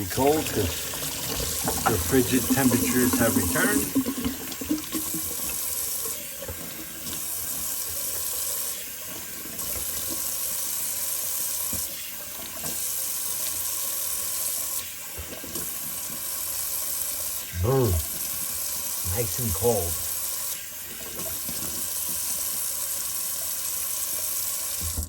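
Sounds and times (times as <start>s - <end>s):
tap water running into sink: 0.0s - 25.0s.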